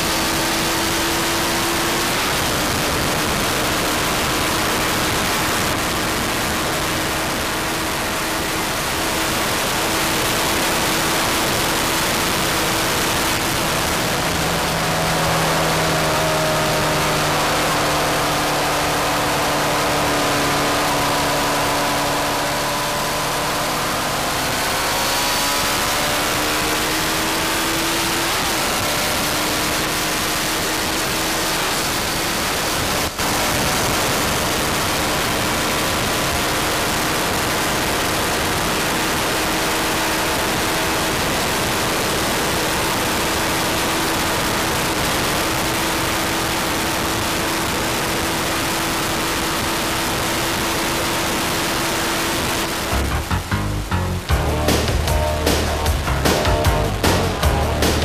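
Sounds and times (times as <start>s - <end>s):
wind rush on microphone: 0.0s - 52.9s
motorcycle engine at high speed: 0.0s - 58.0s.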